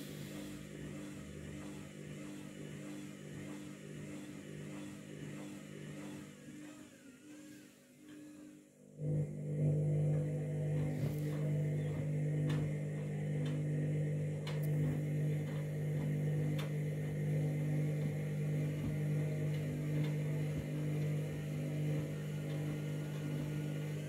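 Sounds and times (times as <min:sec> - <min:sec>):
washing machine motor humming: 0:00.0 - 0:24.0.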